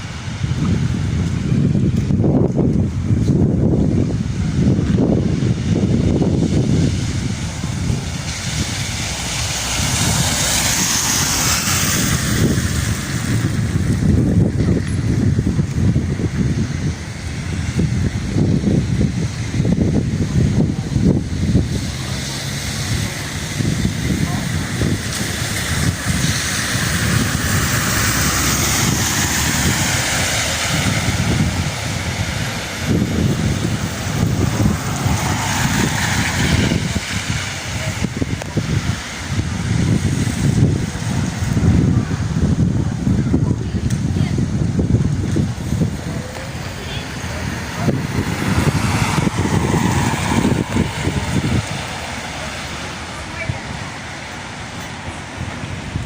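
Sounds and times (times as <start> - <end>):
storm wind buffeting microphone: 0.0 - 56.0.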